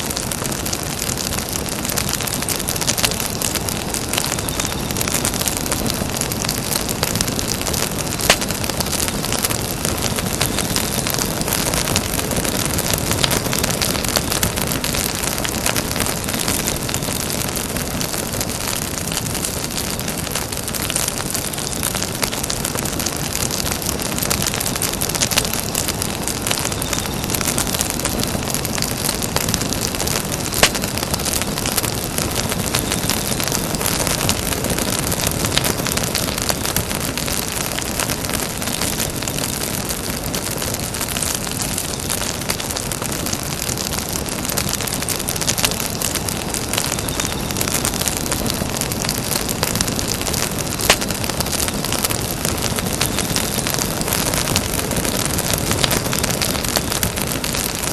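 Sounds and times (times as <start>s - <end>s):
campfire crackling: 0.0s - 57.9s
fire pops: 0.0s - 57.9s.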